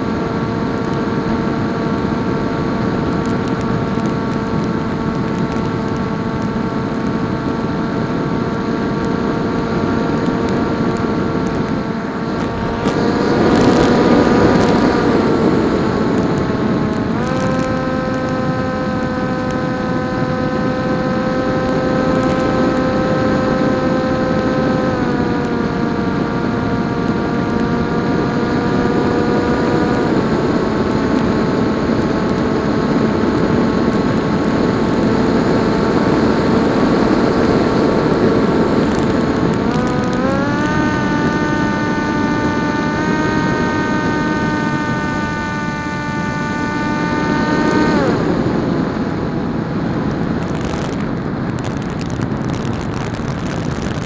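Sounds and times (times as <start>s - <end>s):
electric motor and propeller whine: 0.0s - 54.0s
rushing wind noise: 0.0s - 54.0s.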